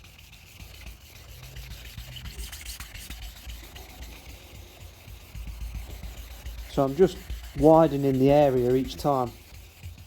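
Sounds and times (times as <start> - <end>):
sandpaper rubbing car paint: 0.0 - 10.0.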